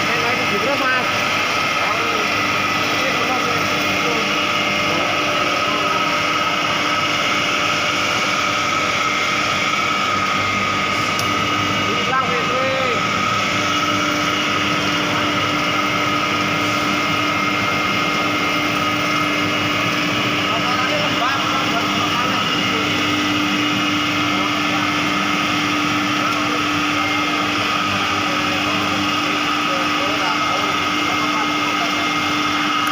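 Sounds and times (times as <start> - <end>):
blower whine: 0.0 - 32.9
gas burner roaring: 0.0 - 32.9.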